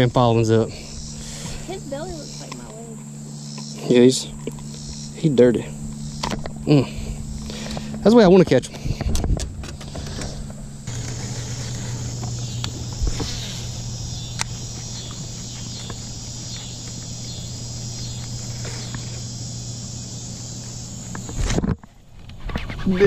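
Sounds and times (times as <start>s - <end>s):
insects chirping: 0.0s - 22.5s
low hum: 0.0s - 23.0s.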